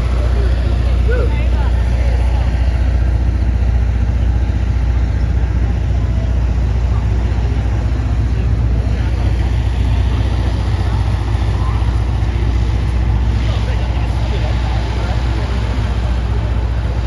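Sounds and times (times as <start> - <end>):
road traffic rumble: 0.0 - 17.0
voices of passersby: 0.0 - 17.0.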